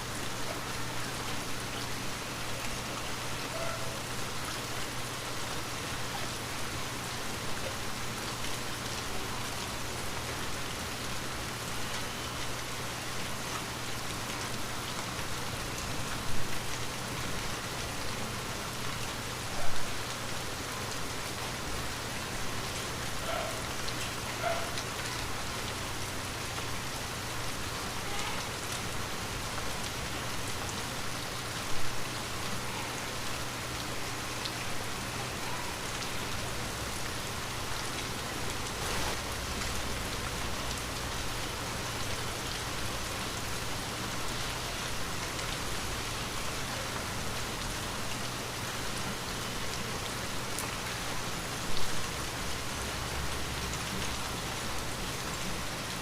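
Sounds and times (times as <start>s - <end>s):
light rain falling: 0.0s - 56.0s.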